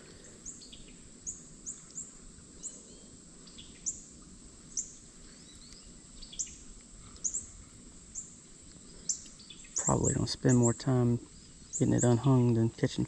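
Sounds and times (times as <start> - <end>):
low outdoor background rush: 0.0 - 13.0.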